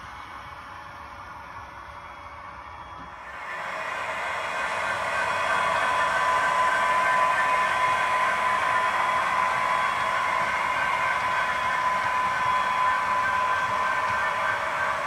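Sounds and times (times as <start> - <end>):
model train whirring: 2.8 - 15.0.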